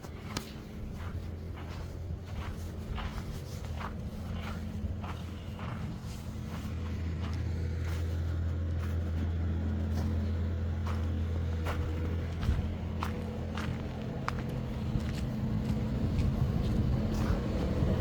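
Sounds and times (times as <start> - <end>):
footsteps on snow: 0.0 - 18.0
vehicle engine humming: 0.0 - 18.0.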